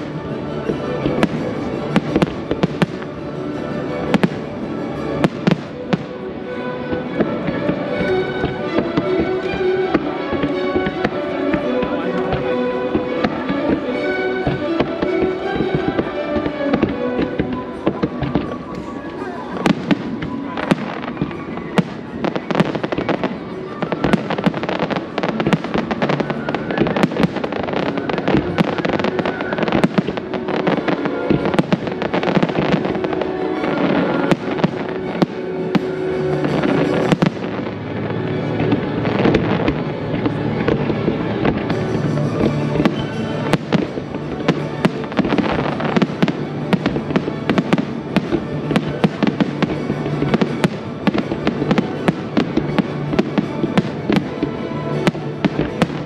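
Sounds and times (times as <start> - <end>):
firework crackling: 0.0 - 56.0
music: 0.0 - 56.0.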